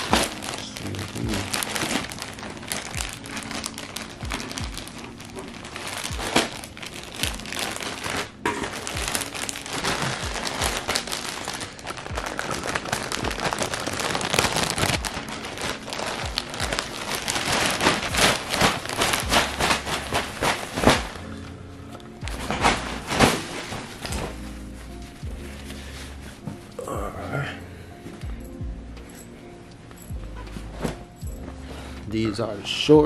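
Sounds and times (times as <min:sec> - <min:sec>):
plastic bags crinkling: 0:00.0 - 0:26.8.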